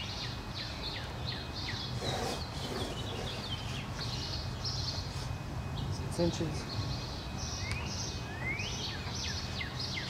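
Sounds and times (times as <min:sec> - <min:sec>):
low background noise: 0:00.0 - 0:10.0
songbirds chirping: 0:00.0 - 0:10.0.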